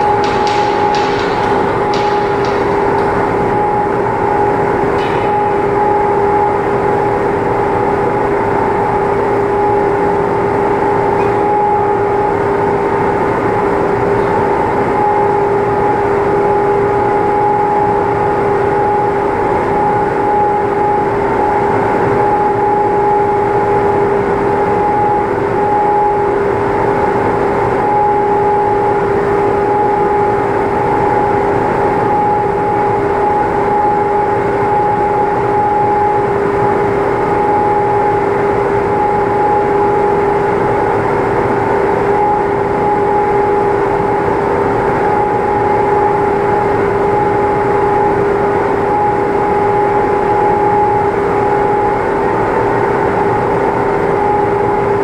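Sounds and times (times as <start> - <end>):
machine humming: 0.0 - 55.0
steady machine whine: 0.0 - 55.0.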